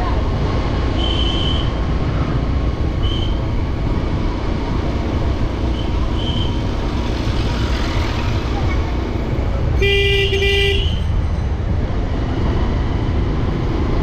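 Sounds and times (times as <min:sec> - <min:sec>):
motorcycle engine rumble: 0:00.0 - 0:14.0.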